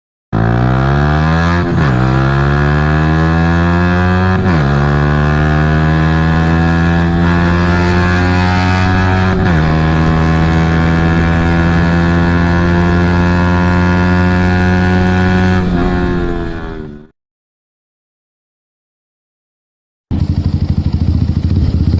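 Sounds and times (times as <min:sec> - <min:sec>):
motorcycle engine accelerating: 0:00.3 - 0:17.1, 0:20.1 - 0:21.9.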